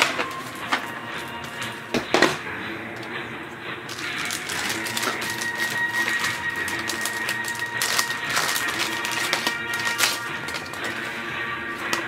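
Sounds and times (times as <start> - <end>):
plastic bag crinkling: 0.0 - 1.7, 3.9 - 12.0.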